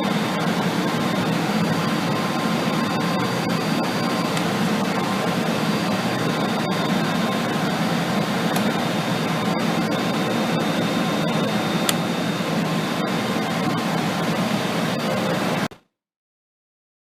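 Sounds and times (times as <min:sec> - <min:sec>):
cooling fans whirring: 0:00.0 - 0:15.7.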